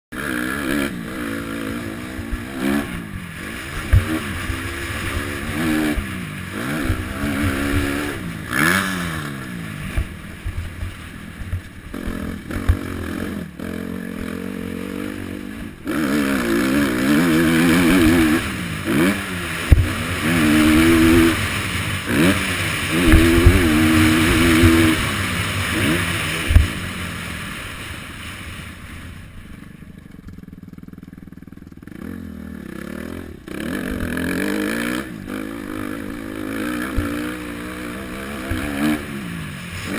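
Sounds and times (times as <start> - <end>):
motocross bike engine revving: 0.1 - 28.2, 30.0 - 39.9.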